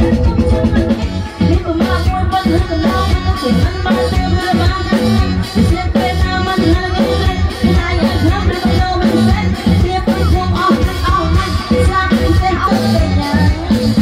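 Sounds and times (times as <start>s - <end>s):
drum kit: 0.0s - 14.0s
electric guitars: 0.0s - 14.0s
woman singing into microphone: 0.0s - 14.0s.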